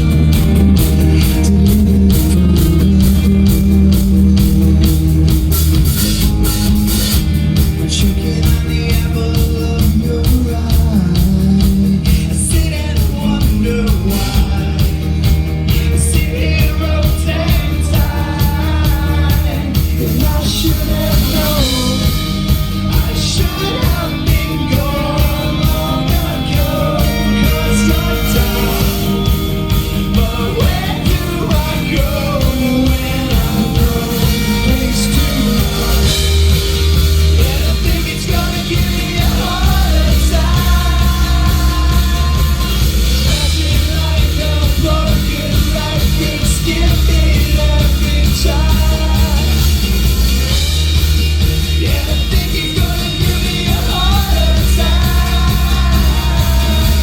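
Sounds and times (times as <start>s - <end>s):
person singing: 0.0s - 5.6s, 7.7s - 50.0s, 51.4s - 57.0s
bass guitar: 0.0s - 57.0s
distorted electric guitars: 0.0s - 57.0s
steady drum beat: 0.0s - 57.0s.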